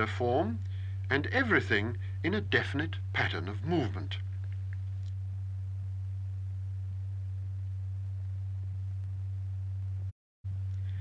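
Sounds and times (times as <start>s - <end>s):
steady low pure tone: 0.0s - 11.0s.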